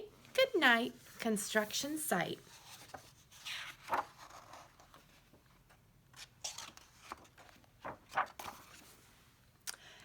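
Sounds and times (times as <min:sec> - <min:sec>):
book pages rustling: 0:01.0 - 0:09.1.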